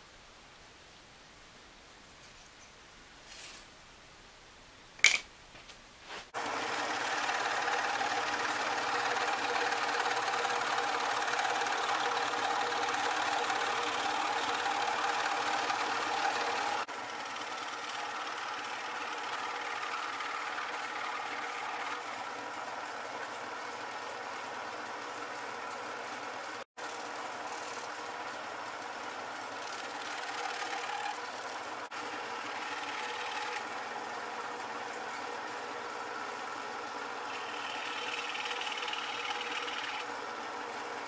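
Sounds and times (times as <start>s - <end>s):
scroll saw buzzing: 6.3s - 41.0s.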